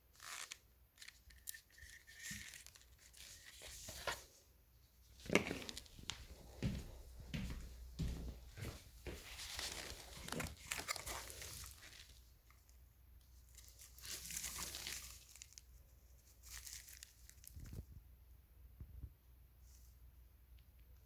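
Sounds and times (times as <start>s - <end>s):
faint rustling and crinkling: 0.1s - 18.2s.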